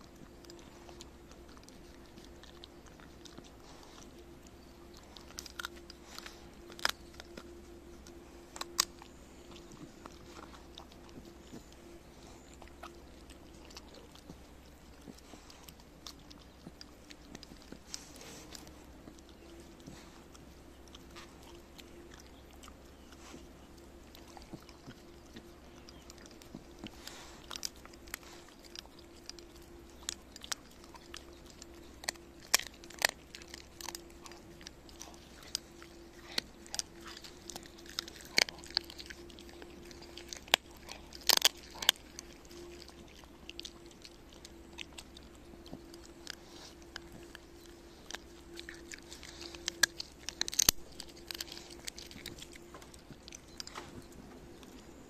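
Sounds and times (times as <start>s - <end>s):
dog crunching bones: 0.0s - 55.0s.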